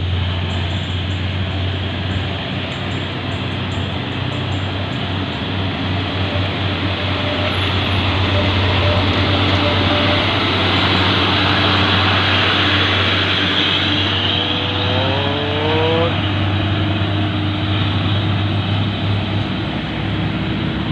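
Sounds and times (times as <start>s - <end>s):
diesel truck engine rumbling: 0.0s - 20.9s.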